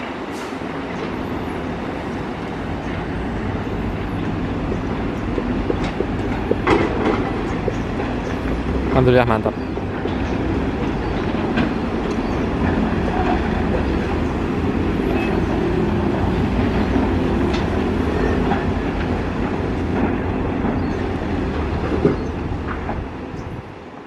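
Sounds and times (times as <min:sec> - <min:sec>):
diesel machinery rumble: 0:02.3 - 0:23.5.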